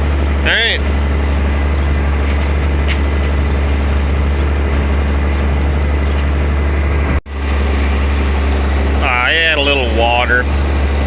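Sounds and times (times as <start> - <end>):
feed mixer droning: 0.0 - 11.0.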